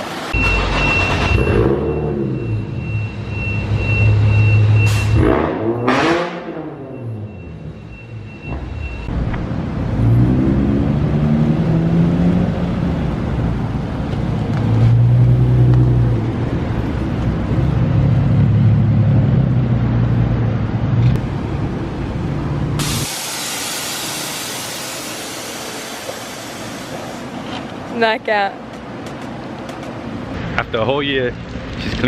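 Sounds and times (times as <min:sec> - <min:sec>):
car engine droning hum: 0:00.3 - 0:32.0.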